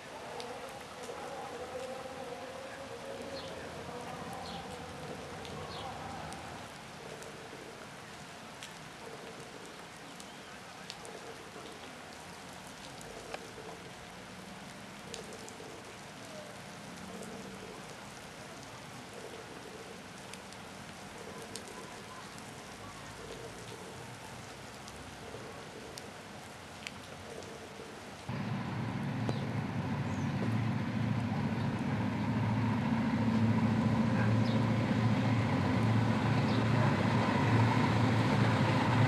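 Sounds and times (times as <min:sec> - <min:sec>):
raindrops clicking on surfaces: 0:00.0 - 0:28.4, 0:29.2 - 0:32.1
rain falling steadily: 0:00.0 - 0:39.0.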